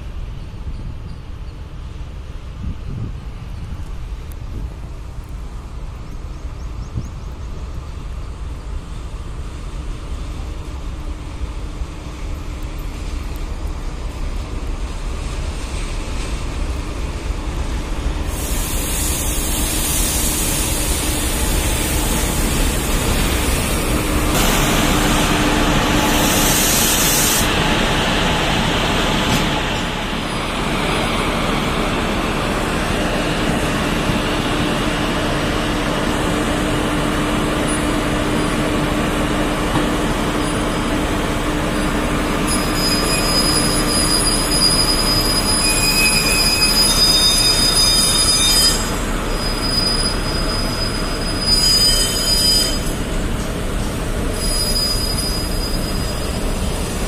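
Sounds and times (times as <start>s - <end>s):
constant locomotive hum: 0.0s - 57.0s
train wheels rumbling on rail: 0.0s - 57.0s.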